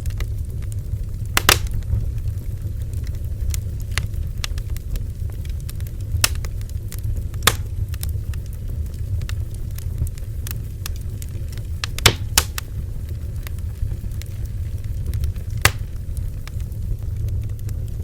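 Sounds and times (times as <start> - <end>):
bonfire flames rumbling: 0.0 - 18.0
burning wood crackling and popping: 0.0 - 18.0.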